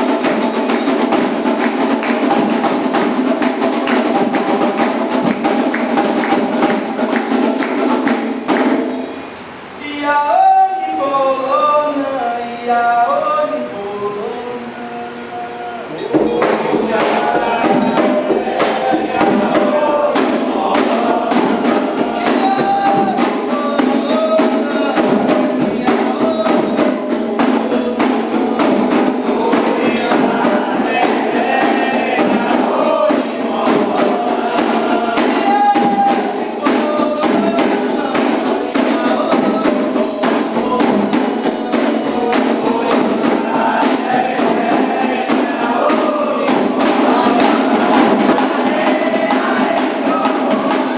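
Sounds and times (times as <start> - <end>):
drums playing fast: 0.0 - 9.4, 15.9 - 50.9
person singing a chant: 9.8 - 50.9.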